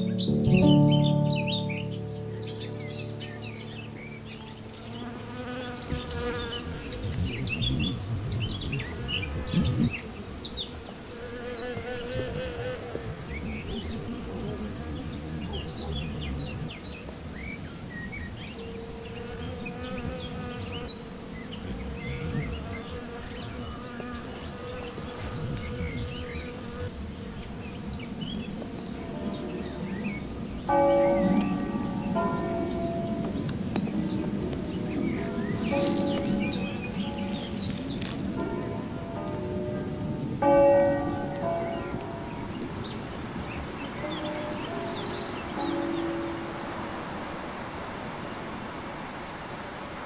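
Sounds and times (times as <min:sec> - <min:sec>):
small birds chirping: 0:00.0 - 0:38.7, 0:41.4 - 0:46.9
flying insects buzzing: 0:00.0 - 0:40.6, 0:41.2 - 0:50.0.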